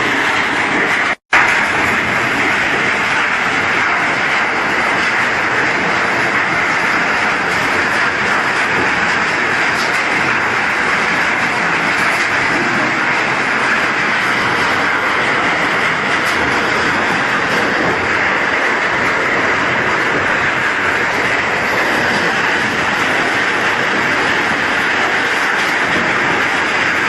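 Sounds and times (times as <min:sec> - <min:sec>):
scrap metal crusher running: 0:00.0 - 0:27.0.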